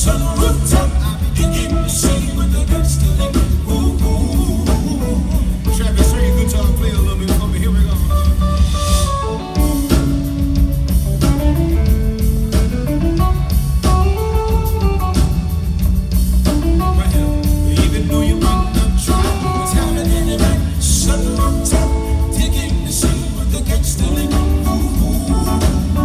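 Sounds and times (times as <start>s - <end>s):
electric guitar melody: 0.0s - 26.0s
soul band playing: 0.0s - 26.0s.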